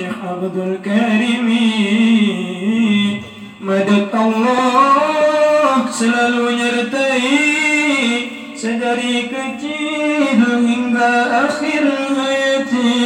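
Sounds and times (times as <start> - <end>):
man chanting into microphone: 0.0 - 13.0.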